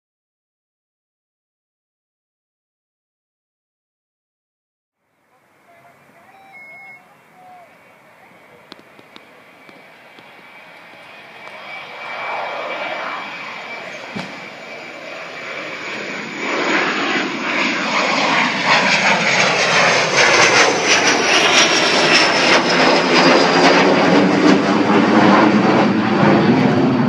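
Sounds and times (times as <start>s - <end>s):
high jet engine whine: 5.2s - 27.0s
jet passing overhead: 5.2s - 27.0s.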